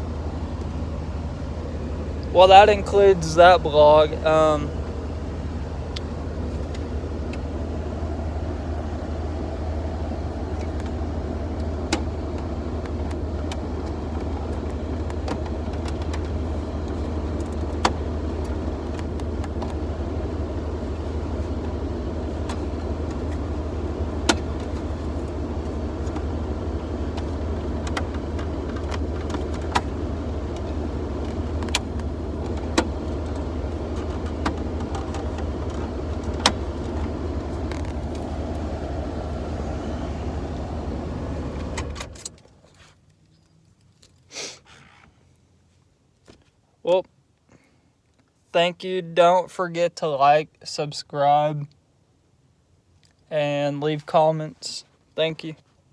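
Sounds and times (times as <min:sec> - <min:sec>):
vehicle engine and road noise: 0:00.0 - 0:55.9.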